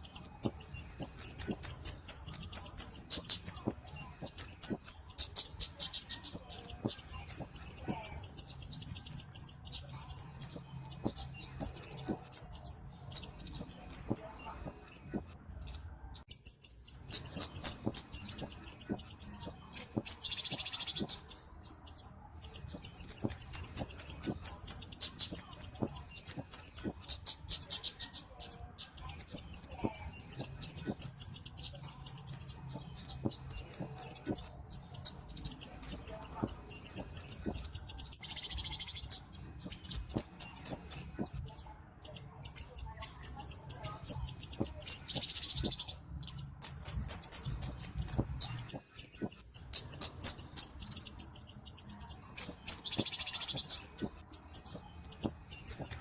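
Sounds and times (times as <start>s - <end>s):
bird twittering: 0.0s - 56.0s.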